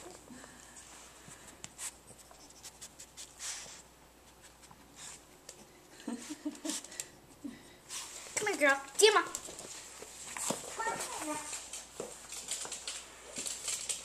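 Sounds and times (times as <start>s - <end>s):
soft rustling: 0.0s - 7.1s, 7.8s - 14.0s.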